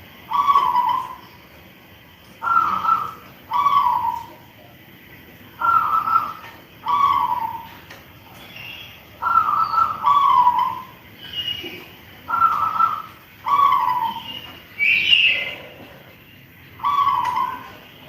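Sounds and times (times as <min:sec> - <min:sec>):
dove cooing: 0:00.0 - 0:01.3, 0:02.3 - 0:04.7, 0:05.5 - 0:18.0.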